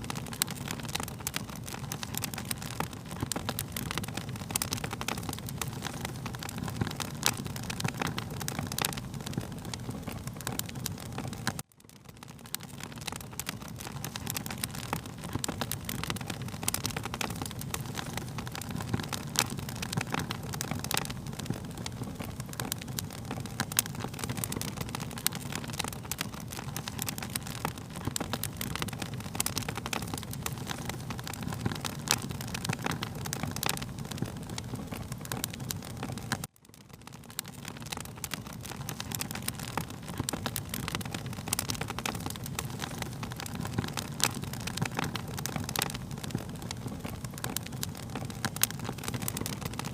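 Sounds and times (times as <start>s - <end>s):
low rumble of burning: 0.0s - 49.9s
wood fire crackling and popping: 0.0s - 49.9s.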